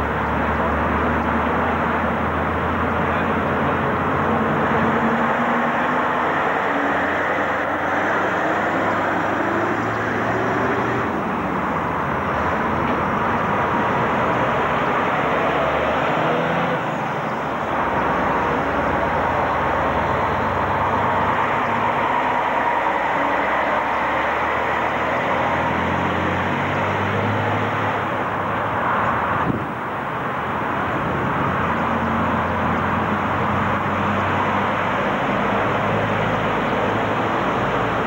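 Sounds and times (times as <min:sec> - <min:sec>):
lorry diesel engines passing: 0:00.0 - 0:38.0.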